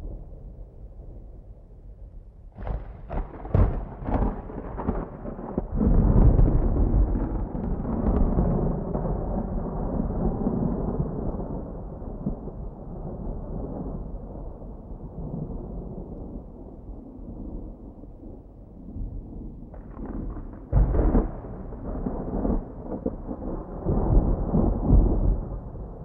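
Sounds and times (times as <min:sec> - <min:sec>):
rolling thunder rumble: 0:02.6 - 0:26.0.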